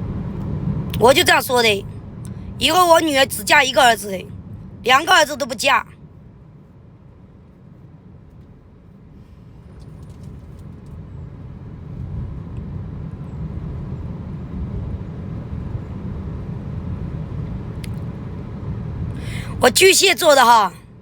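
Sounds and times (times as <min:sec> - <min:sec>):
road and engine rumble in car: 0:00.0 - 0:21.0.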